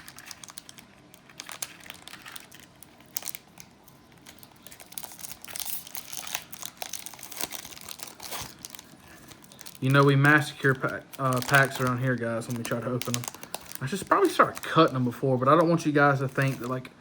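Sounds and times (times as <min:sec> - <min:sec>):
foil wrapper crinkling and tearing: 0:00.0 - 0:16.8.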